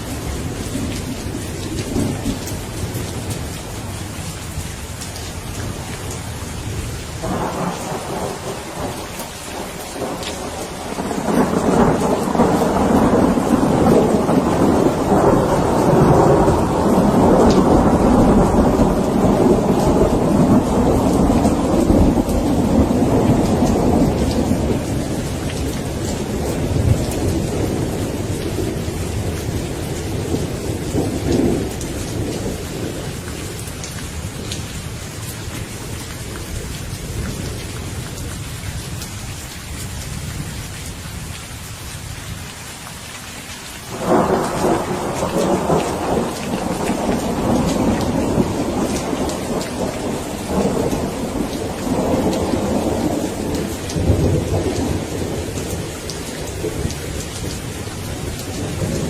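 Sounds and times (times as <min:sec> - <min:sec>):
rolling thunder: 0:00.0 - 0:04.6, 0:05.4 - 0:34.7, 0:43.9 - 0:59.0
steady rain: 0:00.0 - 0:59.0.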